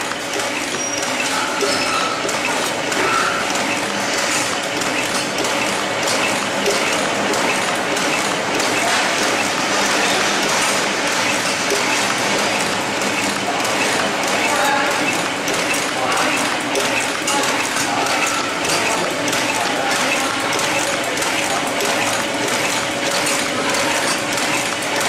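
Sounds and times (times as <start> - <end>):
packing machine clattering: 0.0 - 25.0.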